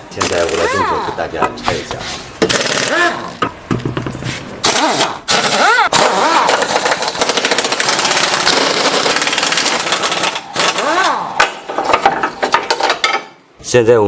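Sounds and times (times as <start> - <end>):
impact wrench whining and hammering: 0.2 - 13.3.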